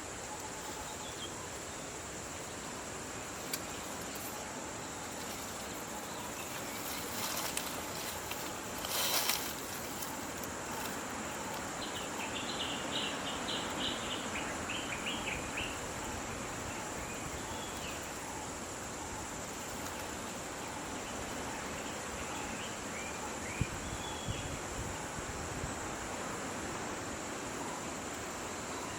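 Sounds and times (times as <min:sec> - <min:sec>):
high insect drone: 0:00.0 - 0:28.9.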